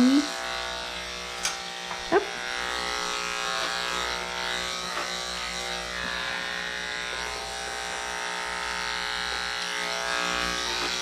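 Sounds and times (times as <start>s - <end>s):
electric clipper buzzing: 0.0s - 11.0s.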